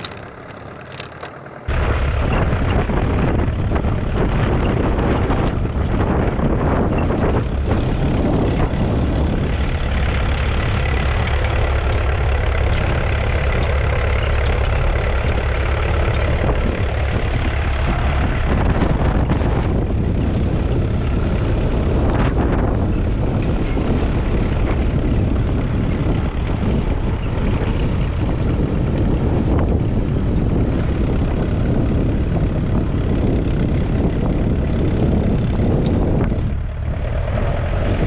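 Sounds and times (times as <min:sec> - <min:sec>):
diesel engine rumbling: 0:00.0 - 0:38.0.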